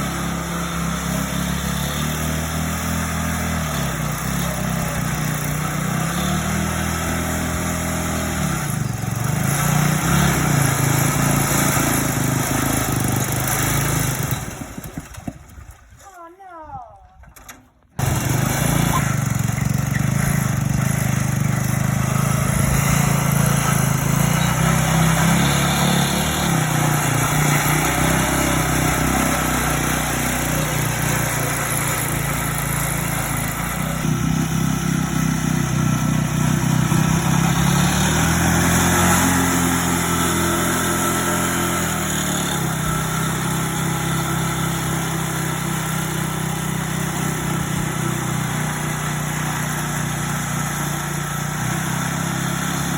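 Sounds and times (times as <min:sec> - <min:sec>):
tractor engine revving: 0:00.0 - 0:16.4, 0:17.3 - 0:52.9.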